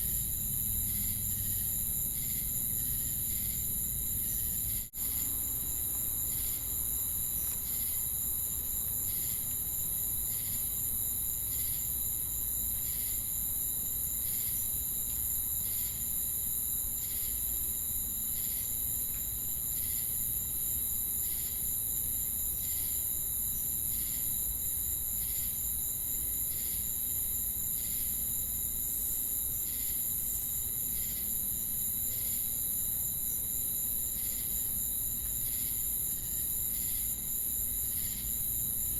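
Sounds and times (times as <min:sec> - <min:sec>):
crickets and cicadas drone: 0:00.0 - 0:38.9
insect chirps: 0:00.0 - 0:38.9.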